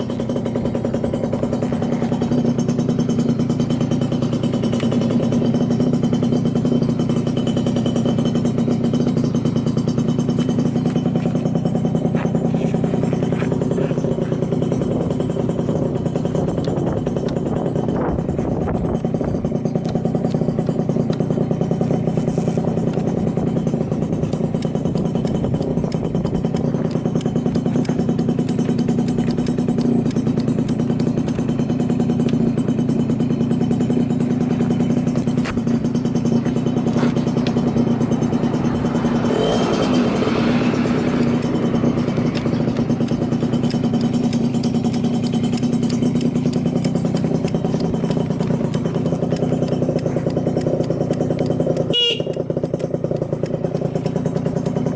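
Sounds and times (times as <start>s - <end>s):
scooter engine idling: 0.0s - 54.9s.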